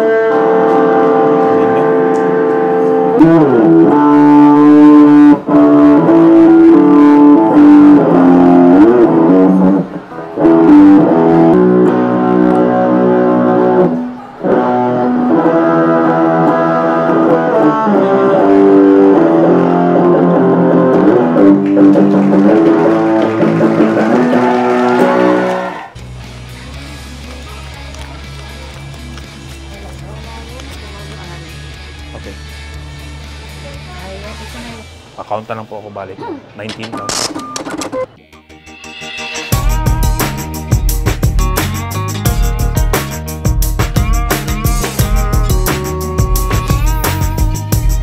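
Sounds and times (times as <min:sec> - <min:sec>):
distorted electric guitar lead: 0:00.0 - 0:35.6, 0:38.1 - 0:48.0.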